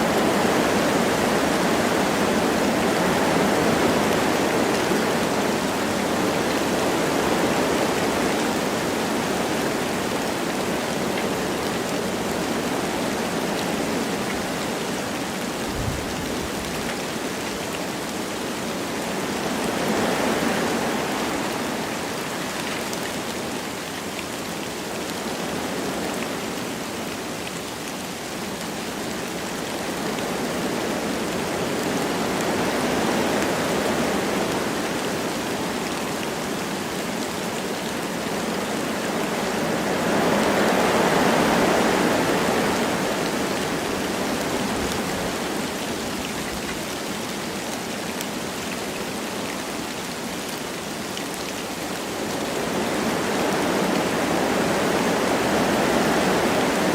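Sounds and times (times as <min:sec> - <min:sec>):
light rain falling: 0:00.0 - 0:56.9
wind blowing through trees: 0:00.0 - 0:56.9.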